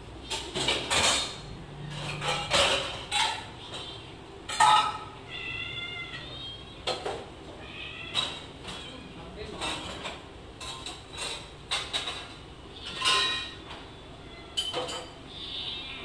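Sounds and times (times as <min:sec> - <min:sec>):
cats meowing: 0:00.1 - 0:10.2, 0:11.3 - 0:16.0.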